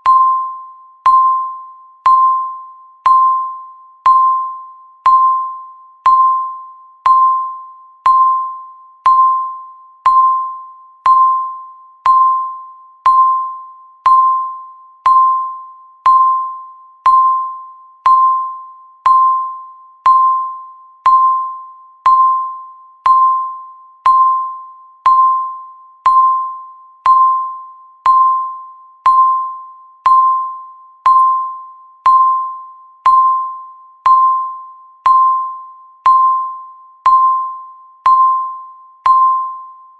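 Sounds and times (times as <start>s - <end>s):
bell-like timer ping: 0.0s - 39.9s.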